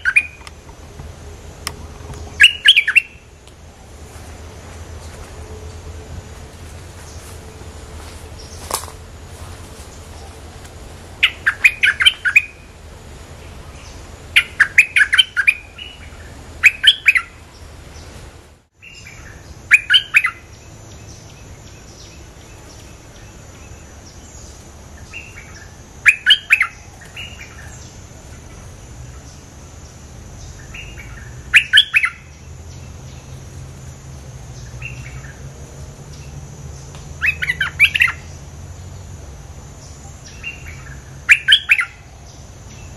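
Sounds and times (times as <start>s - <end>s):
bird chirping song: 0.0s - 10.6s, 11.2s - 18.2s, 18.8s - 35.5s, 36.1s - 42.9s.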